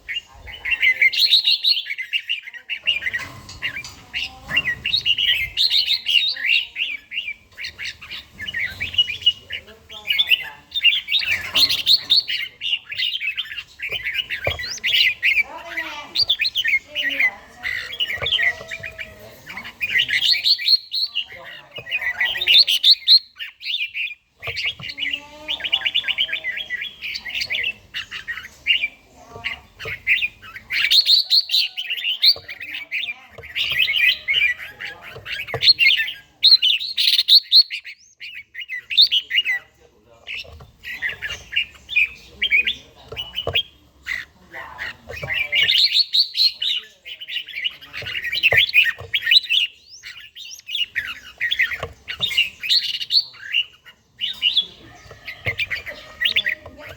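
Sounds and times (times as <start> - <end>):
bulbul chirping song: 0.0 - 56.9.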